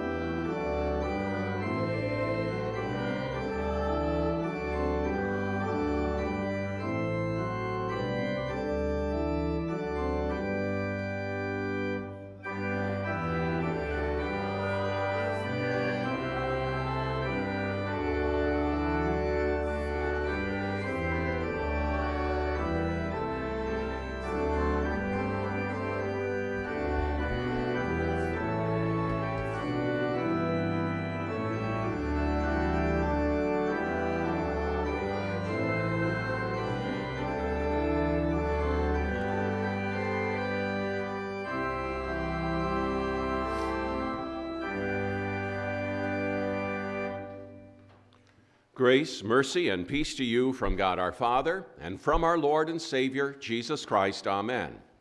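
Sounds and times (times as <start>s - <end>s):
church organ playing chords: 0.0s - 54.9s.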